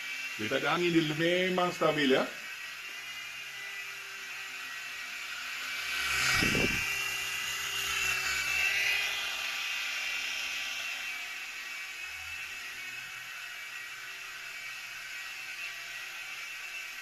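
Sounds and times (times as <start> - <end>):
rc helicopter rotor whine: 0.0 - 17.0.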